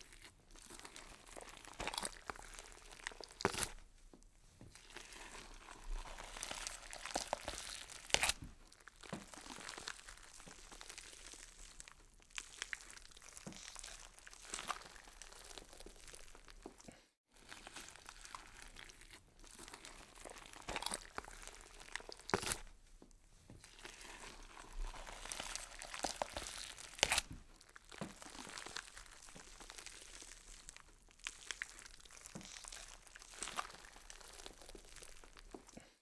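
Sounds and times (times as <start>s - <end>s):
crunching and tearing noises: 0.0s - 36.0s.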